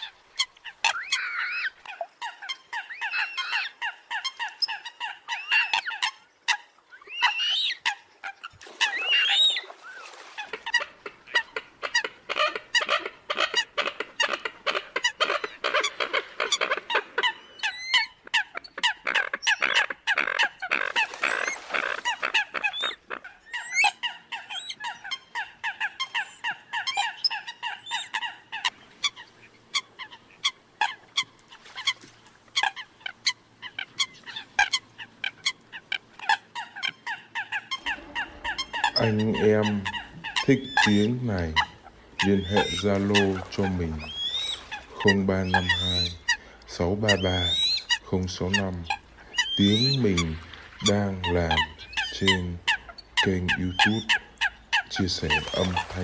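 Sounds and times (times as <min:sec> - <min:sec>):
coots calling: 0:00.0 - 0:56.0.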